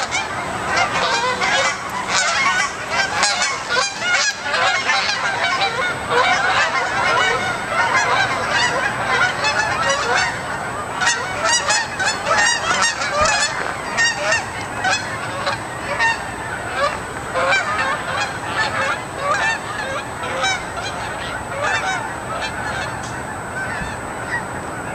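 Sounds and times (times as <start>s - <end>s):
geese honking: 0.0s - 24.9s.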